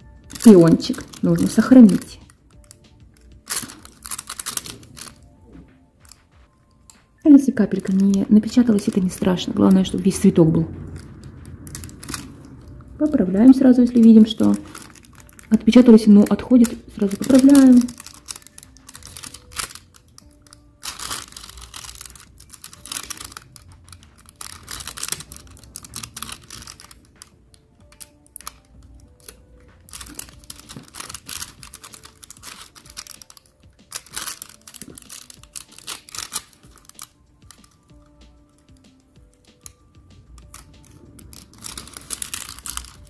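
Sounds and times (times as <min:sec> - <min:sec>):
faint background music: 0:00.0 - 0:43.0
plastic foil crinkling: 0:00.0 - 0:43.0.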